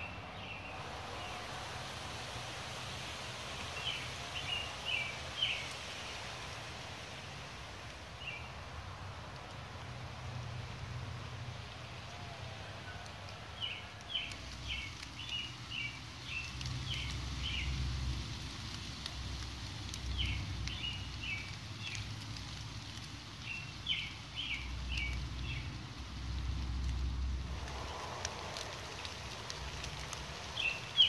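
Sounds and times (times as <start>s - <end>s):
songbird singing: 0.0s - 18.2s, 19.0s - 31.0s
light rain: 0.0s - 31.0s.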